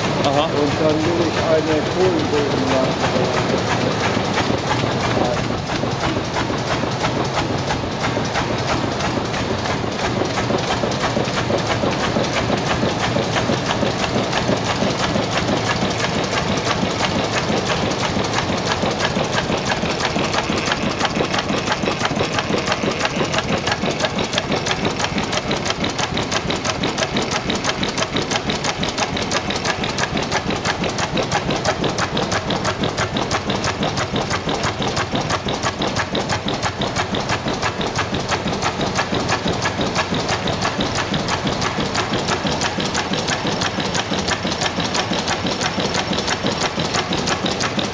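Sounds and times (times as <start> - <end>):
gas engine clattering: 0.0 - 47.9.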